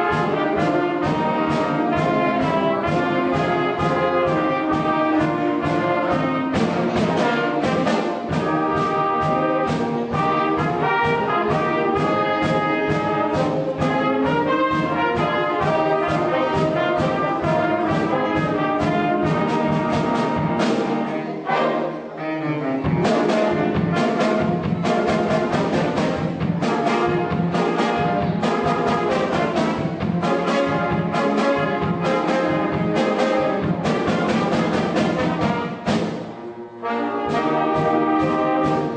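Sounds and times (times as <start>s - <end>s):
drum kit beat: 0.0s - 21.7s, 22.9s - 36.4s
brass: 0.0s - 38.9s
wind band playing: 0.0s - 38.9s.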